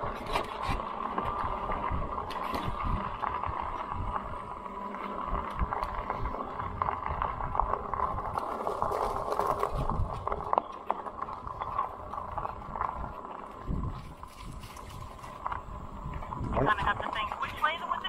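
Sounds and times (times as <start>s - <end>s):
tyres rolling: 0.0s - 18.0s
wind buffeting microphone: 0.0s - 18.0s.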